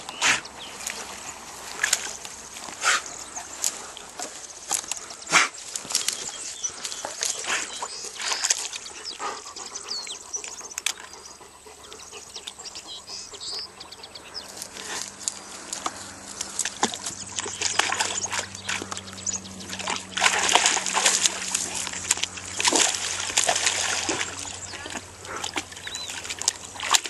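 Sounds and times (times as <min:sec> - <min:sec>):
water splashing and sloshing: 0:00.0 - 0:13.4, 0:14.3 - 0:27.0.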